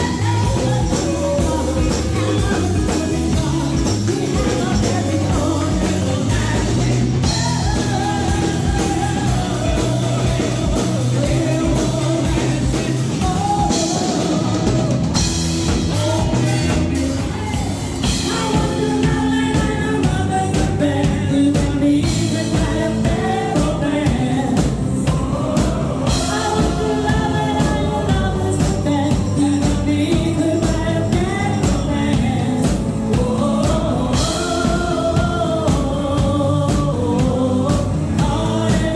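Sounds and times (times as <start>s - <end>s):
lead singer singing: 0.0s - 38.9s
live rock band playing: 0.0s - 38.9s.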